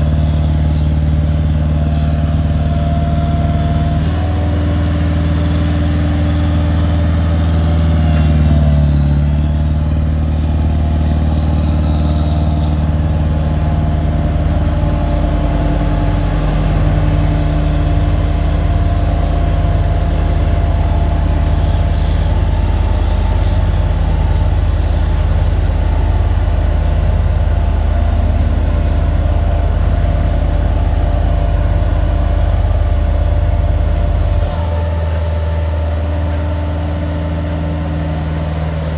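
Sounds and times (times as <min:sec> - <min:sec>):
engine running loud: 0:00.0 - 0:38.9.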